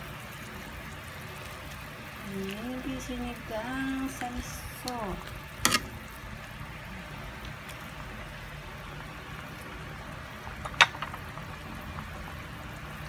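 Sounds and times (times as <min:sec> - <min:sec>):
soup boiling and bubbling: 0:00.0 - 0:13.0.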